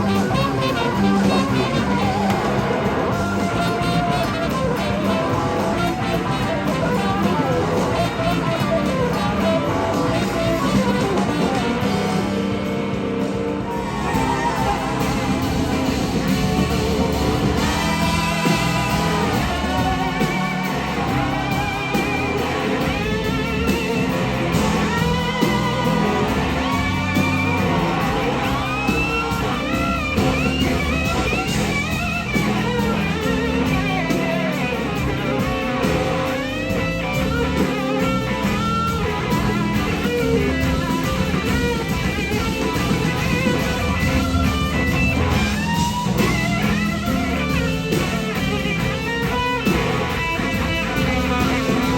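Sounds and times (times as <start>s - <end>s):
blues-rock band: 0.0s - 51.9s
electric slide guitar solo: 0.0s - 51.9s.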